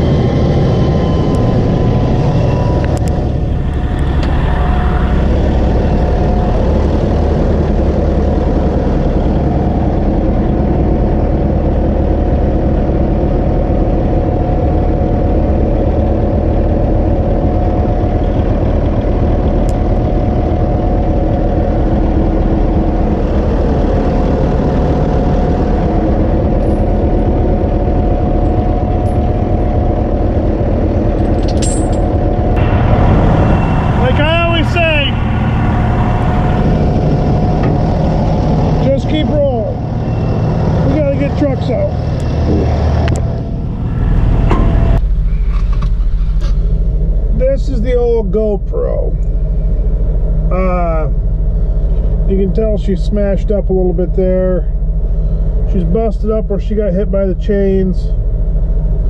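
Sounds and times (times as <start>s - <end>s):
heavy engine drone: 0.0s - 59.0s
steady engine whine: 0.0s - 59.0s.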